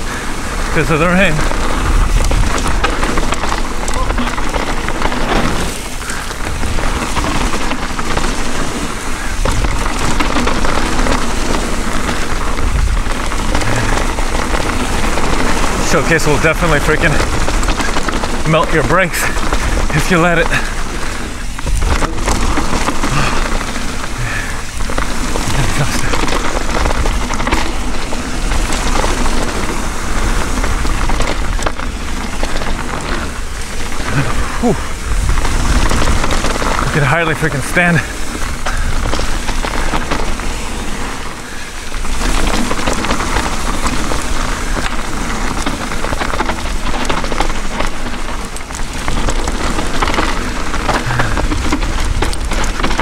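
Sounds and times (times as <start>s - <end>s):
bike rattling: 0.0s - 53.0s
tyre noise on dirt: 0.0s - 53.0s
wind buffeting microphone: 0.0s - 53.0s.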